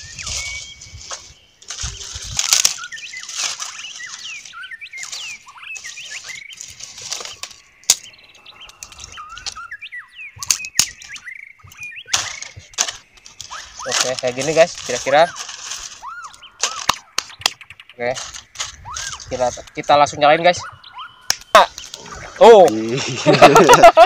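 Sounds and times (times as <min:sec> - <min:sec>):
birds chirping: 0:00.0 - 0:24.0
dry leaves crunching: 0:00.0 - 0:24.0
sticks snapping: 0:00.4 - 0:09.6, 0:10.4 - 0:20.7, 0:21.3 - 0:22.9.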